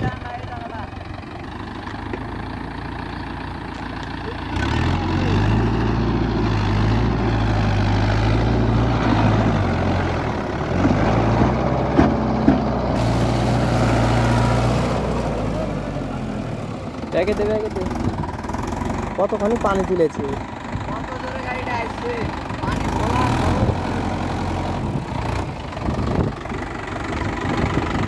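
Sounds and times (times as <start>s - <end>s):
tractor diesel engine pulling: 0.0s - 28.0s.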